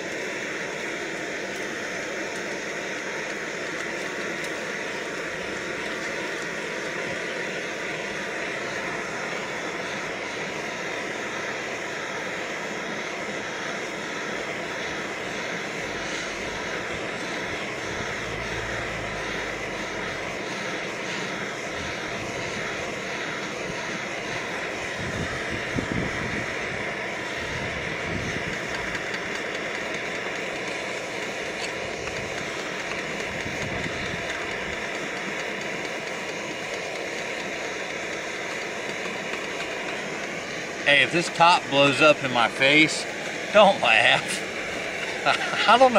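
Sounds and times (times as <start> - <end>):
stove burner roaring: 0.0 - 45.9.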